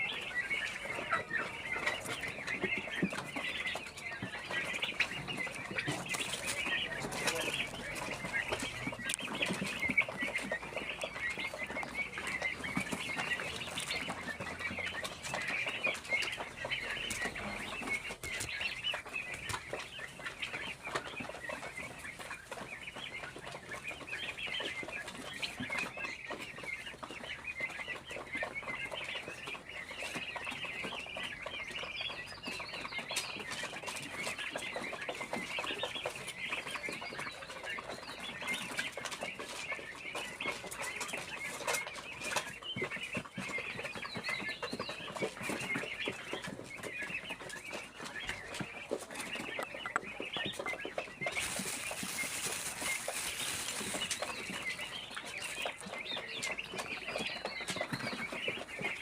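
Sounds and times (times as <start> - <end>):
chickens clucking and chirping: 0.0 - 59.0.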